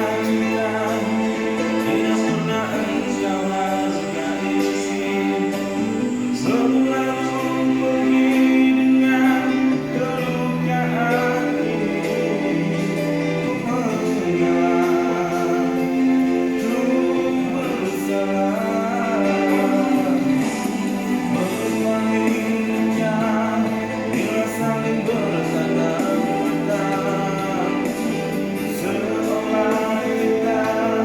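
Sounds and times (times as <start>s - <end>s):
group singing in harmony: 0.0s - 31.0s.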